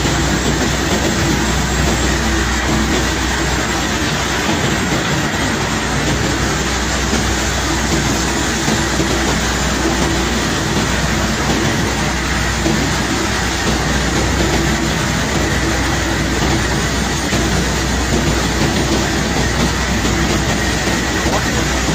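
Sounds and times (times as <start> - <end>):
heavy machinery rumbling and rattling: 0.0 - 21.9.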